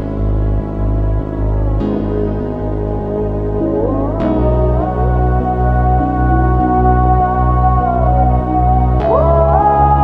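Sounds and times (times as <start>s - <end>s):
ambient synthesizer chords: 0.0s - 10.0s
steady bass pulse: 0.0s - 10.0s.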